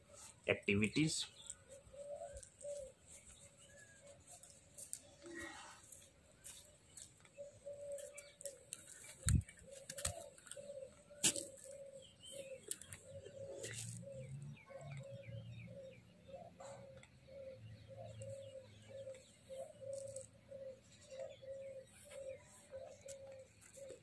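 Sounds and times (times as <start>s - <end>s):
small birds chirping: 0.0s - 24.0s
pigeons cooing: 1.0s - 24.0s.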